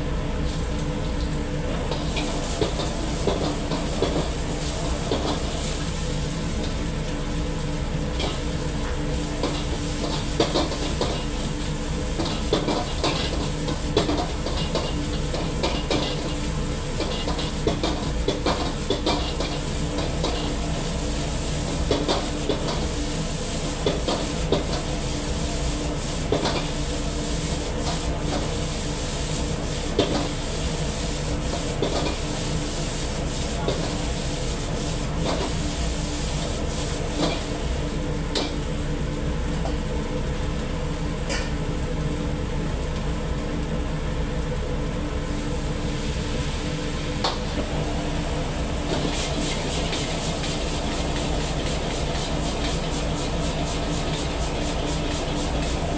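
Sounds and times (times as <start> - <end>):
gas burner low rumble: 0.0 - 55.9.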